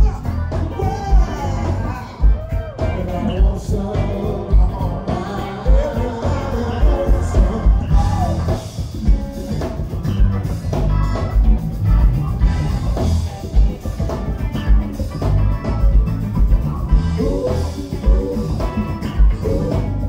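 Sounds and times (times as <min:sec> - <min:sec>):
funk band playing: 0:00.0 - 0:20.0
pulsing bass line: 0:00.0 - 0:20.0.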